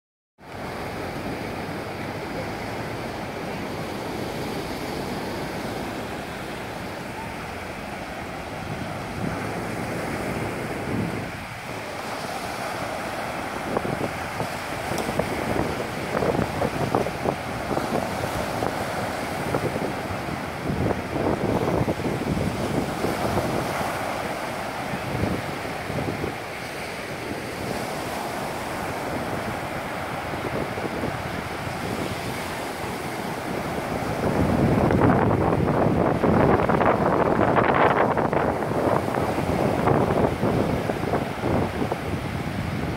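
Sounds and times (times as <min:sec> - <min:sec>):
small waves washing up beach: 0:00.4 - 0:42.9.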